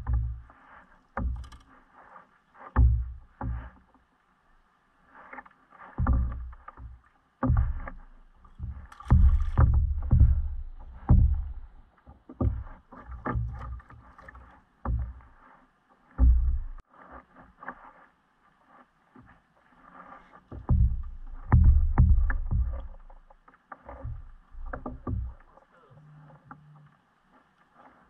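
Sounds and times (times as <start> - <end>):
water sloshing against kayak hull: 0.0 - 28.0.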